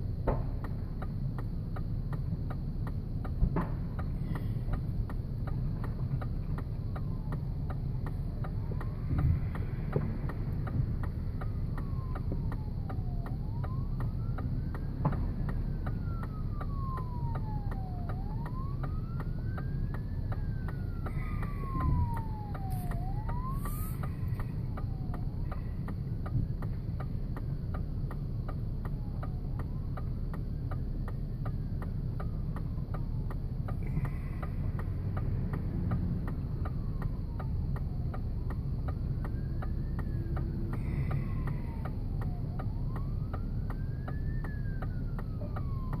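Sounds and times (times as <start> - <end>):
emergency siren wailing: 0.0 - 46.0.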